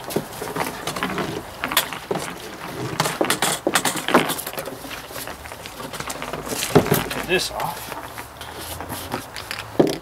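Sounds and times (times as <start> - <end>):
parts clicking and clattering: 0.0 - 10.0.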